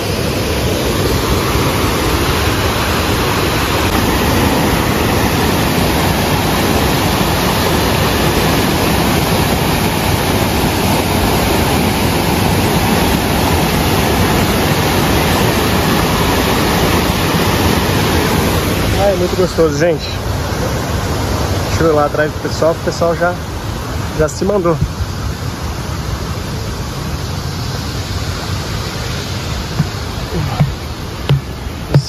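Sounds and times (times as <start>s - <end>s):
waterfall rushing over rocks: 0.0s - 32.0s.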